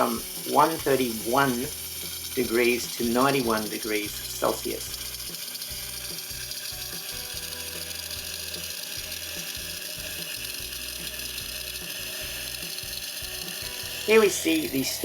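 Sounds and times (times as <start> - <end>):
espresso machine pump hum: 0.0 - 15.0
steam wand hissing: 0.0 - 15.0.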